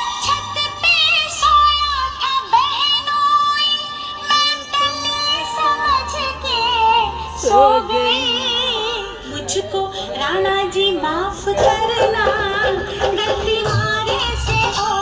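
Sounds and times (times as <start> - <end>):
woman singing with wavering pitch: 0.0 - 15.0.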